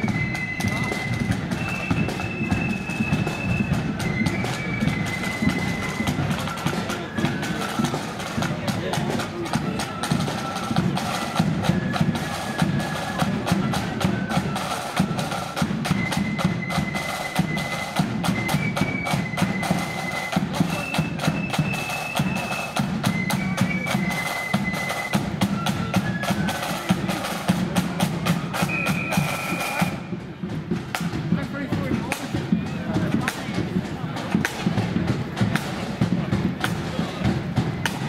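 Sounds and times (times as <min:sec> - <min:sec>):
flute melody: 0:00.0 - 0:38.0
rapid side drum strokes: 0:00.0 - 0:38.0.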